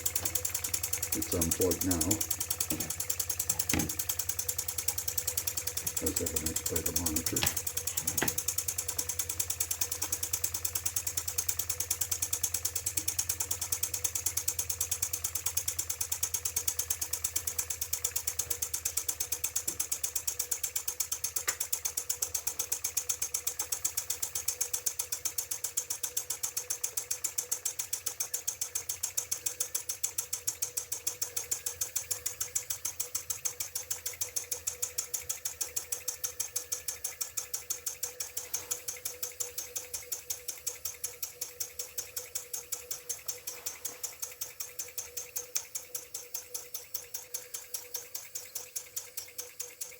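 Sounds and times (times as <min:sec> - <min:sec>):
toy steam engine clattering: 0:00.0 - 0:49.9.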